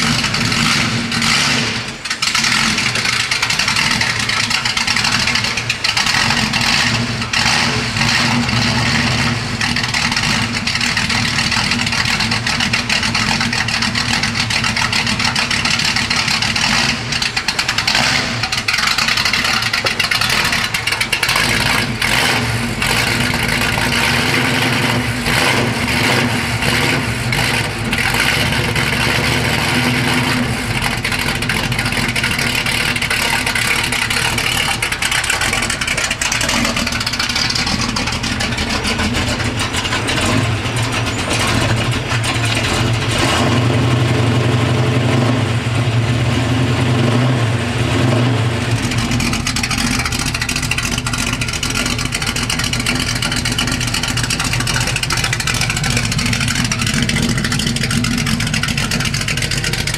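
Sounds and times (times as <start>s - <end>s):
car engine running at low speed: 0.0s - 59.9s.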